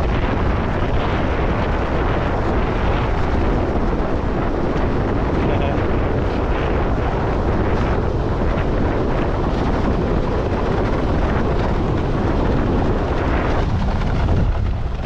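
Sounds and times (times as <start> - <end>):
water rushing past sailboard: 0.0 - 15.0
wind buffeting microphone: 0.0 - 15.0.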